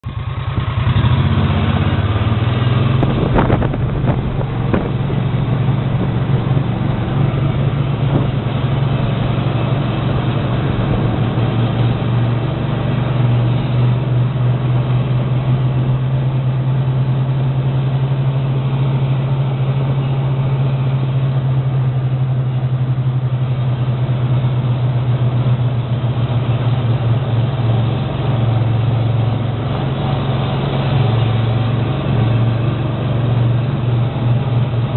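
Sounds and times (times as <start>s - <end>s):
machine motor drone: 0.0s - 34.9s.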